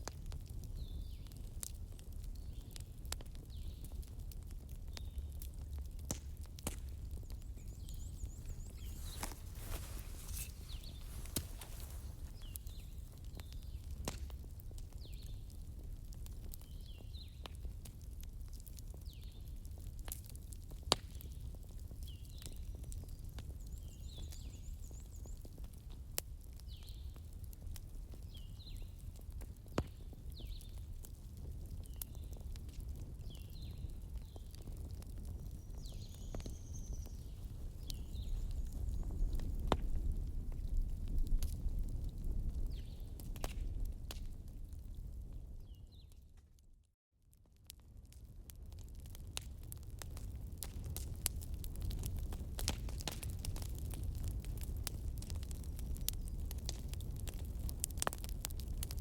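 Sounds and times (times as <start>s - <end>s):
wood fire crackling: 0.0s - 24.4s, 25.0s - 46.7s, 47.4s - 59.0s.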